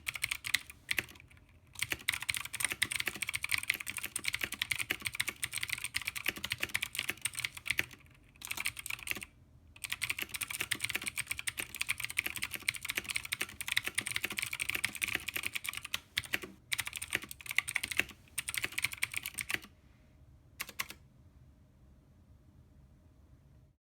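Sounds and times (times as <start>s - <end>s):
mechanical keyboard typing: 0.0s - 19.7s, 20.6s - 21.0s.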